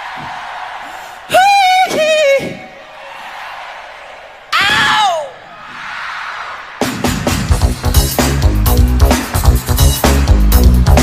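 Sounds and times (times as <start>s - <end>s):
crowd cheering: 0.0s - 11.0s.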